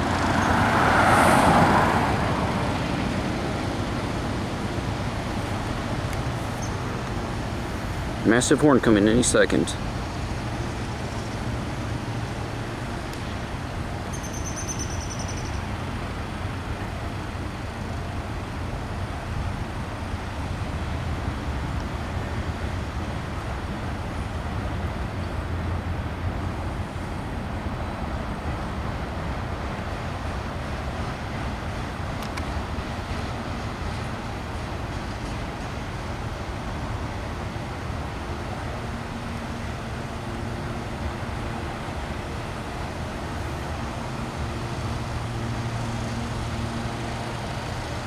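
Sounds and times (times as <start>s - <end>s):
train rumbling on tracks: 0.0s - 48.0s.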